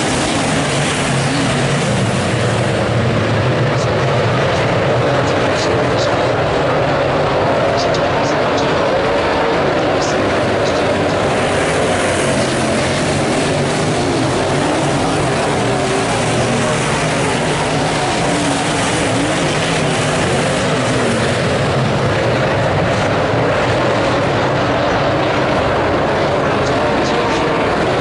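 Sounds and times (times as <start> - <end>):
racing car engines: 0.0 - 28.0.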